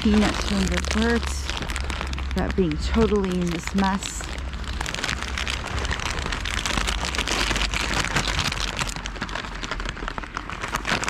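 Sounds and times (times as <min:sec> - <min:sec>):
rain pattering: 0:00.0 - 0:11.0
steady low rumble: 0:00.0 - 0:11.0.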